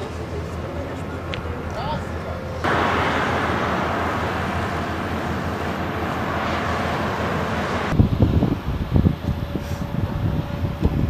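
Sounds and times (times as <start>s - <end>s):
fighter jet engine roar: 2.0s - 11.0s.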